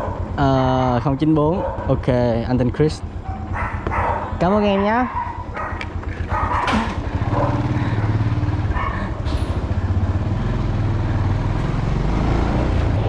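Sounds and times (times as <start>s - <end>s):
motorbike engine at low speed: 0.0s - 13.0s.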